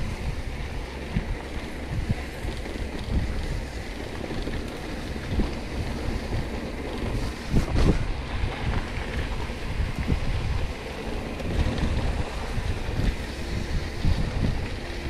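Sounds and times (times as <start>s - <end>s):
low rumble of bike tyres: 0.0s - 15.0s
wind buffeting microphone: 0.0s - 15.0s.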